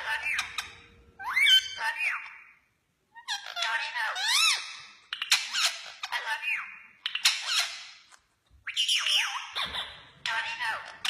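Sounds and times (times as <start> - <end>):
parakeets chattering: 0.0 - 11.0.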